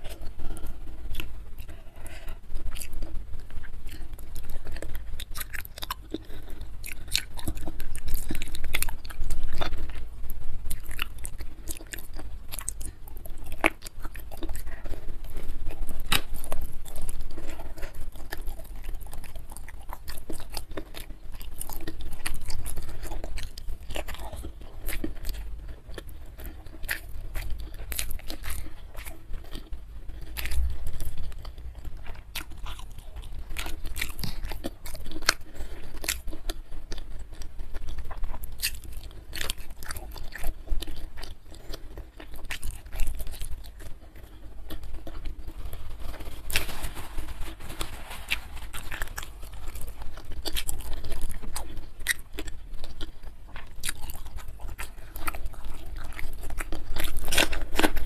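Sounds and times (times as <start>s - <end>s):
crunches while chewing: 0.0s - 58.0s
steady low hum: 0.0s - 58.0s
wet chewing mouth sounds: 0.0s - 58.0s.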